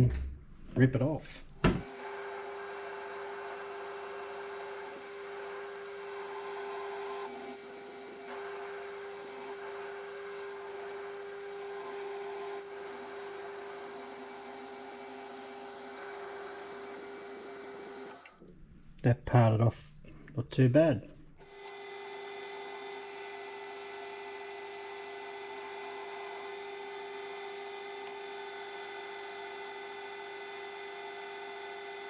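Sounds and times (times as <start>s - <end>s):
metal lathe humming: 1.7s - 18.4s, 21.4s - 32.0s.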